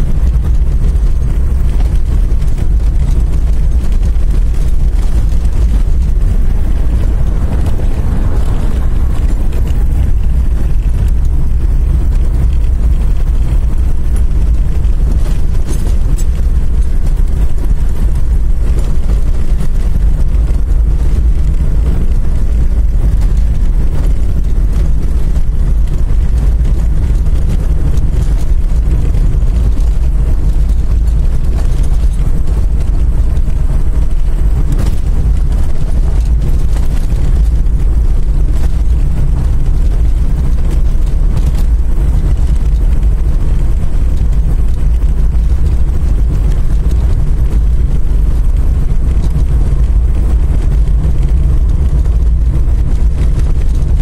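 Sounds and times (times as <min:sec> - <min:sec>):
tyres rumbling on dirt road: 0:00.0 - 0:54.0.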